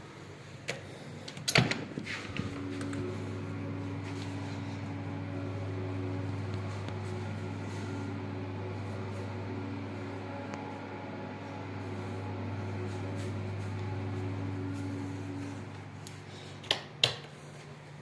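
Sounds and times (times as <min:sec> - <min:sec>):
machine humming: 0:01.0 - 0:16.7.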